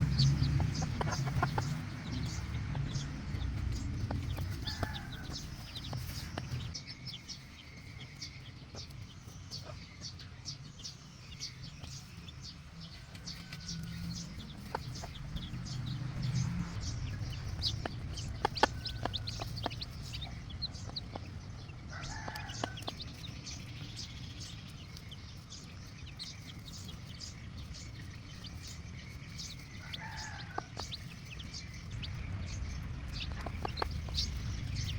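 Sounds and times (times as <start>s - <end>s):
hen clucking: 0.0s - 6.8s, 13.0s - 34.9s
low steady rumble: 0.0s - 34.9s.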